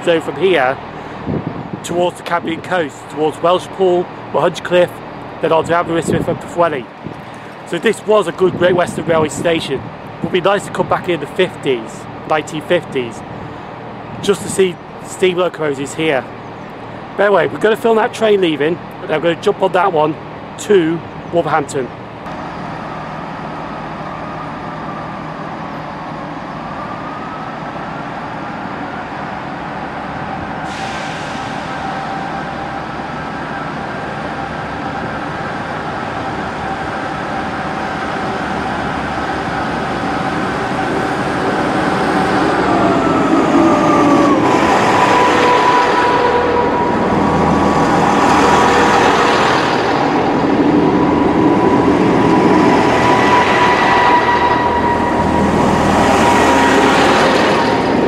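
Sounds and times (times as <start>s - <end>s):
diesel train engine whine: 0.0s - 19.6s, 20.2s - 58.0s
train rumbling on the track: 0.0s - 58.0s.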